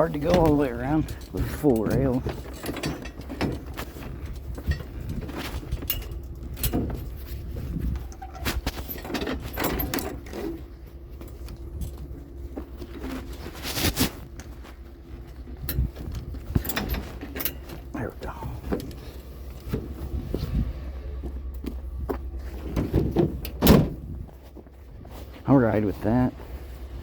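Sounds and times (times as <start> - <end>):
scrap metal clanking and rattling: 0.0 - 25.4
low steady rumble: 0.0 - 27.0.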